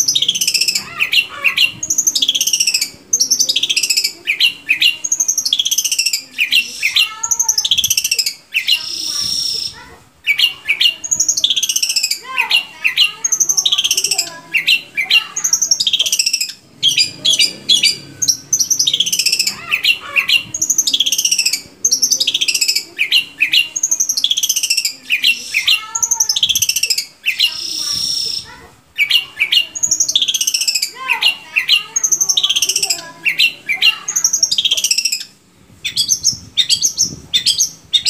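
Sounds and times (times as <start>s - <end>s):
shrike chattering song: 0.0s - 38.0s.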